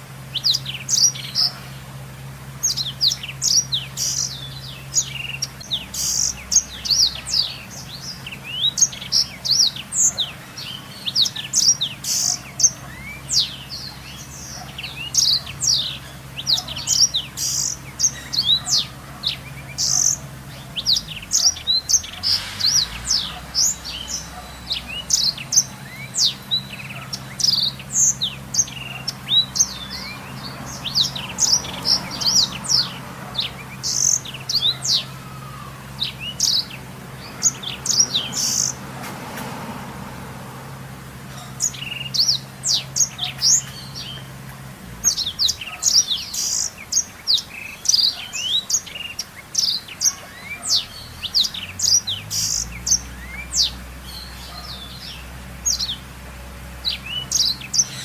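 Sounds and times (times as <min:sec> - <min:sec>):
bird singing rapid high chirps: 0:00.0 - 0:38.9, 0:41.2 - 0:58.0.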